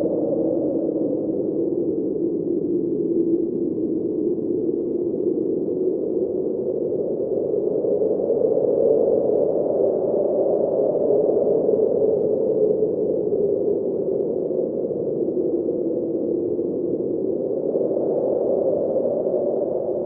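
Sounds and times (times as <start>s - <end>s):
blizzard wind howling: 0.0s - 20.0s.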